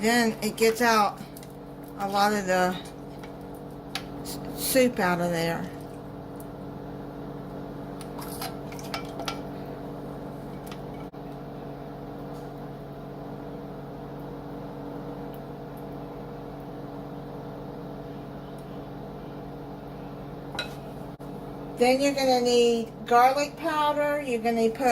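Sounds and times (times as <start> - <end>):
kitchen appliance hum: 0.0 - 24.9.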